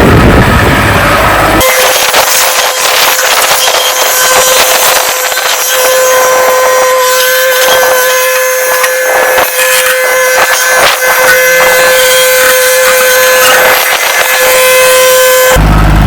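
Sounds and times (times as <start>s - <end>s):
knocks and scraping: 0.0s - 15.6s
machine whining: 0.0s - 16.0s.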